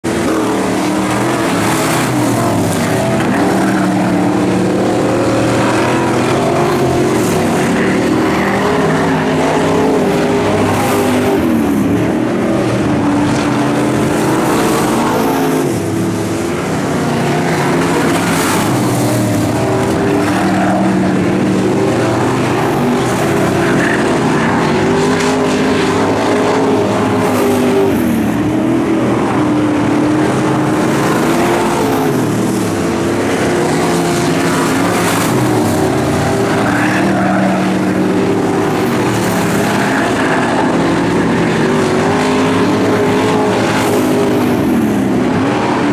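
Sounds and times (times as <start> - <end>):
race car engine: 0.0 - 45.9.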